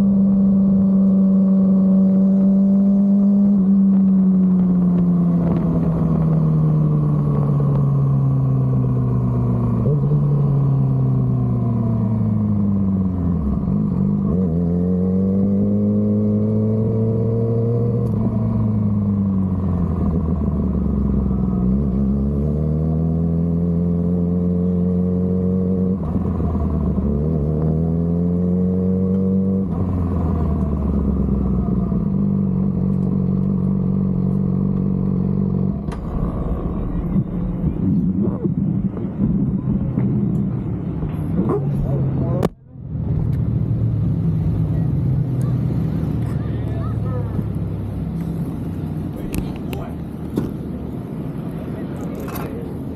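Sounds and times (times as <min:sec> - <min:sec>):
motorcycle engine running at low revs: 0:00.0 - 0:52.9.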